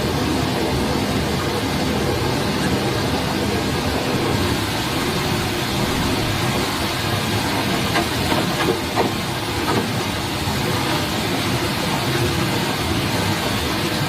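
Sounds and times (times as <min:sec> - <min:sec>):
forest stream rushing: 0:00.0 - 0:14.0.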